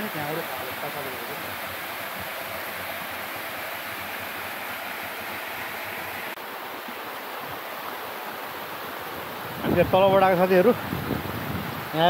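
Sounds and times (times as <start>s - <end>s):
water rushing down a cascade: 0.0s - 12.0s.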